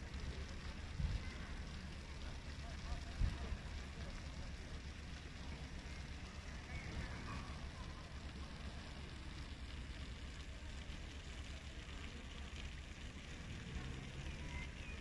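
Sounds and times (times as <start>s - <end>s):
distant city square ambience: 0.0s - 15.0s.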